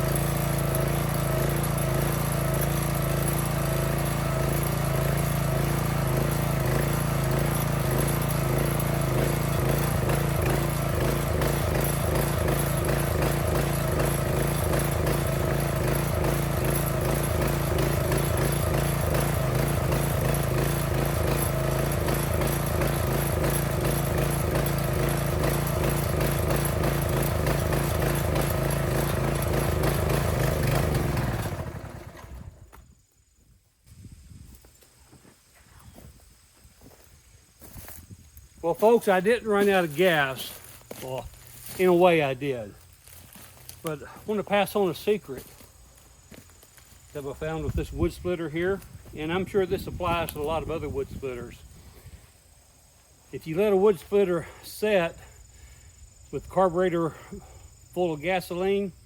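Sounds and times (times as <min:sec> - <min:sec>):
small gasoline engine running: 0:00.0 - 0:32.9, 0:37.7 - 0:52.2, 0:53.4 - 0:59.0.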